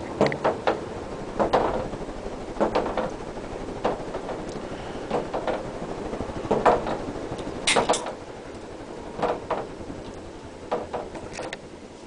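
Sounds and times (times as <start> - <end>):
ceiling fan humming: 0.0 - 12.0
fan clicks and knocks: 0.0 - 12.0.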